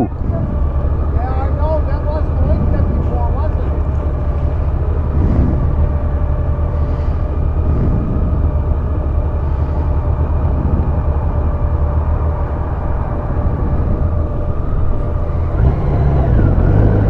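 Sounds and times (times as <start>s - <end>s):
motorcycle low rumble: 0.0s - 17.0s.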